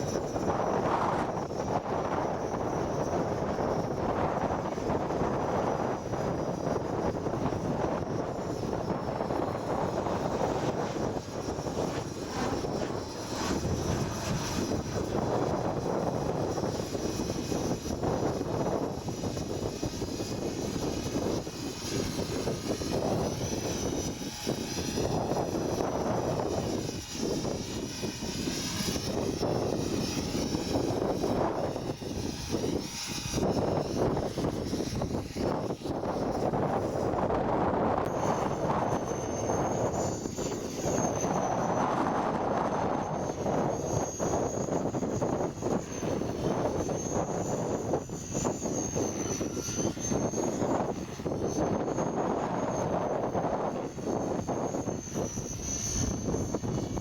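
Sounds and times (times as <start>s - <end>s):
rc helicopter rotor whine: 0.0s - 57.0s
wind buffeting microphone: 0.0s - 57.0s.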